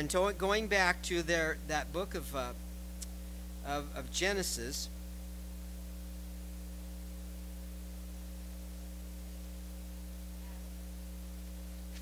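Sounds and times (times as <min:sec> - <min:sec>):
electrical mains hum: 0:00.0 - 0:12.0
low hiss: 0:00.0 - 0:12.0.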